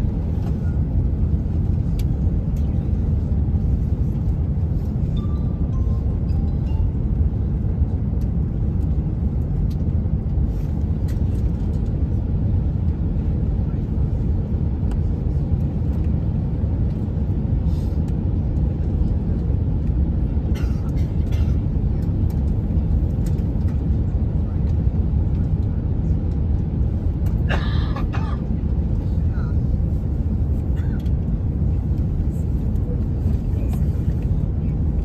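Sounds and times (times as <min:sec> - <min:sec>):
aircraft cabin engine rumble: 0:00.0 - 0:35.0.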